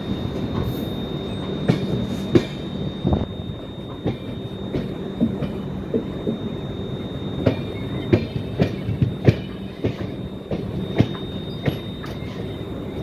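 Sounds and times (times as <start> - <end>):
train wheels clacking on track: 0.0 - 2.8, 3.8 - 6.6, 7.4 - 12.6
thin high whine: 0.0 - 13.0
train rolling rumble: 0.0 - 13.0.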